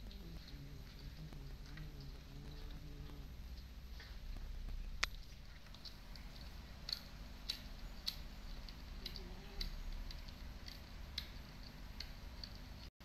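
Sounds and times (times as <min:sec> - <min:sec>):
cat crunching bones: 0:00.0 - 0:12.9.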